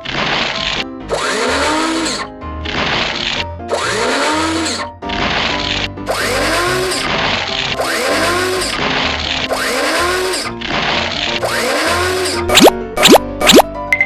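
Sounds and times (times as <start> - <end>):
whirring machine-like sound effect: 0.0 - 13.7.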